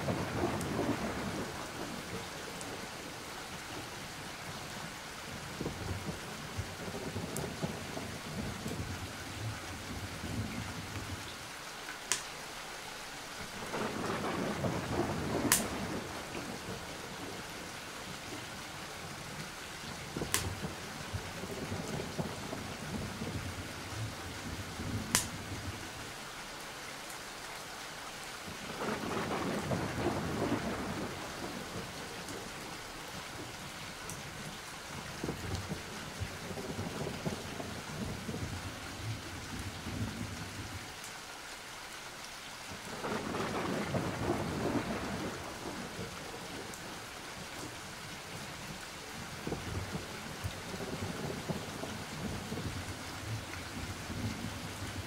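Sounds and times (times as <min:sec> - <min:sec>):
thunder rumbling: 0:00.0 - 0:03.2, 0:05.3 - 0:11.3, 0:13.4 - 0:25.9, 0:28.6 - 0:40.8, 0:42.8 - 0:55.0
steady rain: 0:00.0 - 0:55.0.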